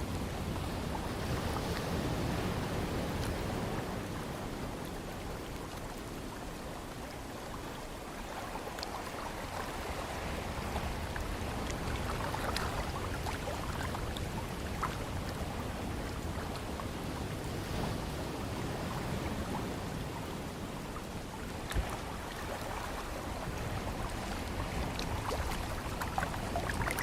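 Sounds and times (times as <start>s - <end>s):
ocean waves: 0.0s - 27.0s
wind: 0.0s - 27.0s.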